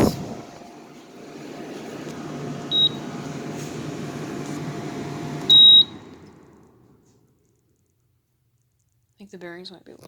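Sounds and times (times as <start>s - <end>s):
air conditioner fan whirring: 0.0s - 10.0s.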